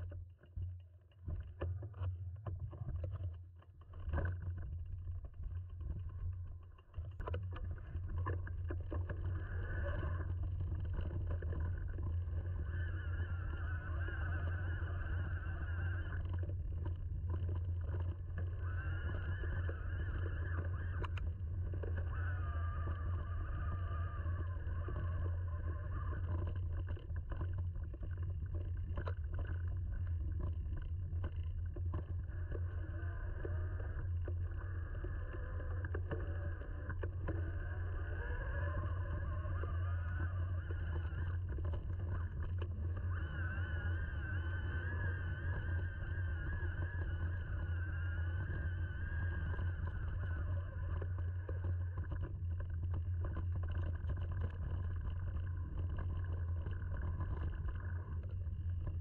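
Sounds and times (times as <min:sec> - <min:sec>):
faint whine: 0:00.0 - 0:59.0.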